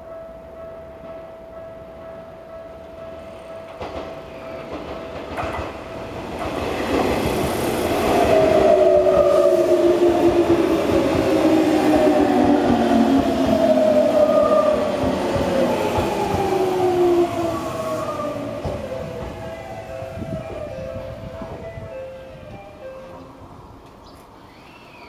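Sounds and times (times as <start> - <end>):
train running over crossing: 0.0 - 23.8.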